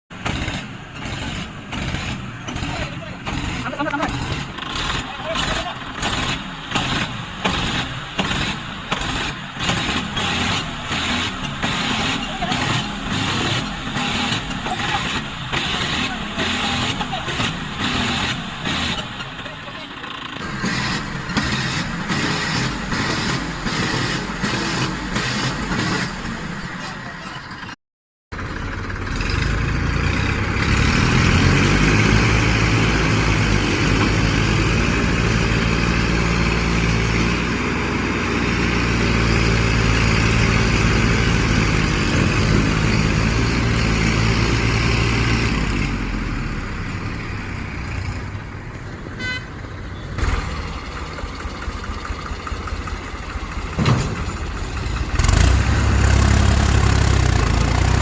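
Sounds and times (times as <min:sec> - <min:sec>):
vehicle engine running: 0:00.1 - 0:27.6, 0:28.3 - 0:58.0
road noise: 0:00.1 - 0:58.0.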